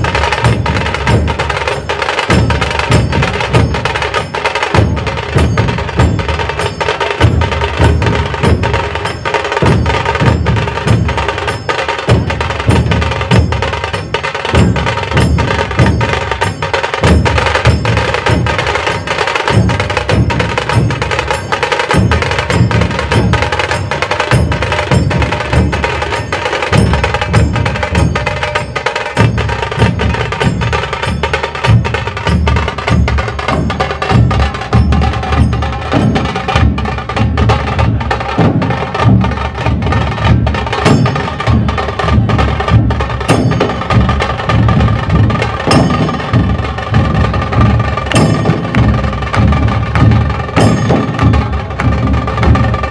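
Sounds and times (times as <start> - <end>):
deep drum beats: 0.0 - 52.9
fast drum rhythm: 0.0 - 52.9.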